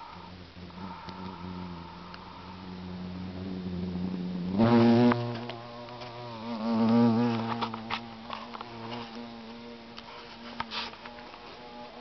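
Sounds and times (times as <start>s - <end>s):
fly buzzing: 0.0s - 12.0s.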